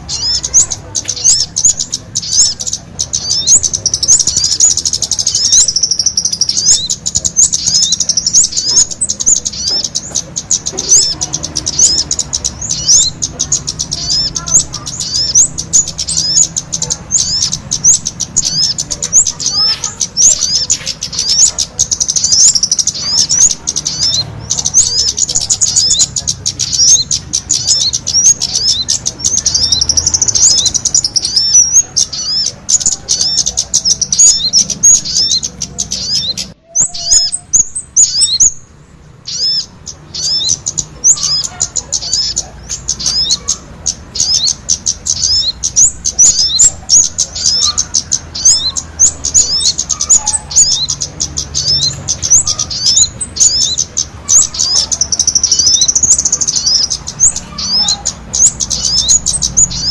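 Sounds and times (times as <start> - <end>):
high sweeping bird chirps: 0.0 - 59.9.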